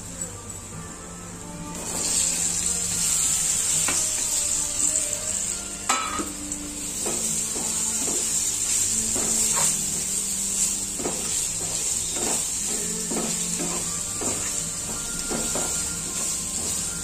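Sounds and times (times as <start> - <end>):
banana slices sizzling in oil: 1.7 - 17.0.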